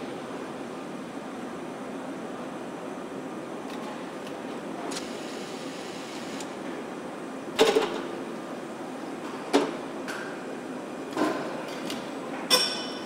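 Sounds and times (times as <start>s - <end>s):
factory hall background noise: 0.0s - 13.0s.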